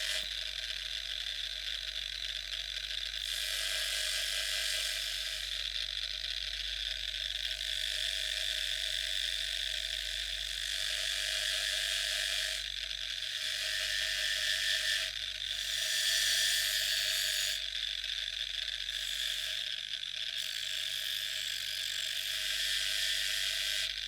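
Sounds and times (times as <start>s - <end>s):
small power tool buzzing: 0.0s - 0.7s, 1.4s - 5.8s, 7.4s - 24.0s.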